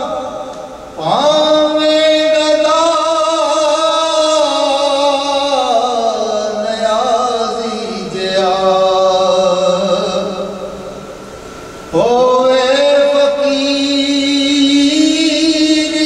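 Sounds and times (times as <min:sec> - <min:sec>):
man singing unaccompanied: 0:00.0 - 0:11.0, 0:11.9 - 0:16.0.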